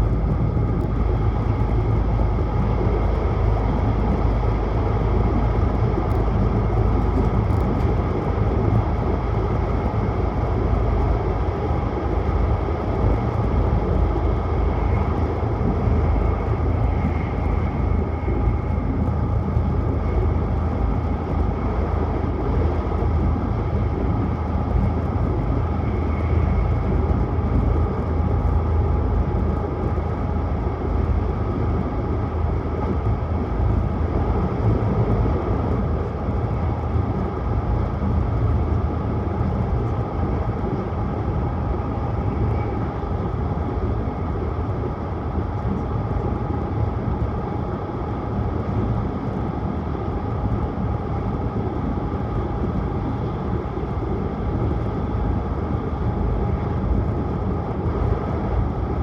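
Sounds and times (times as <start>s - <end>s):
train running at speed: 0.0s - 59.0s.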